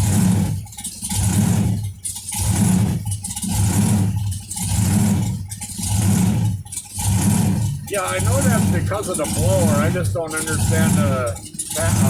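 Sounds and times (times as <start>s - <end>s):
supercharged engine surging rhythmically: 0.0s - 12.0s.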